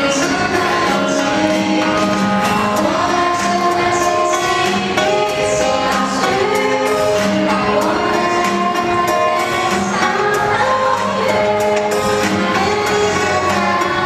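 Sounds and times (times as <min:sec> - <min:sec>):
backing track with steady beat: 0:00.0 - 0:14.0
group singing a pop song: 0:00.0 - 0:14.0.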